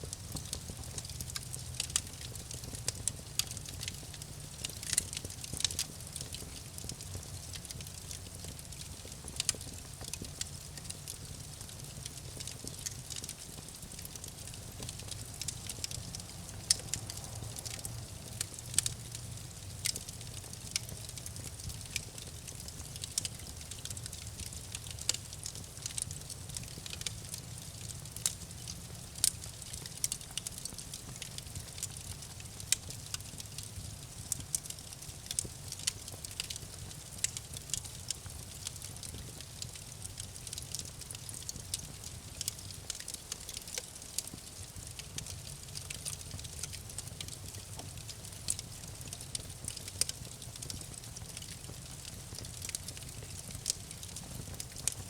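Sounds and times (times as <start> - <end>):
campfire crackling: 0.0 - 55.0
low rumble of flames: 0.0 - 55.0.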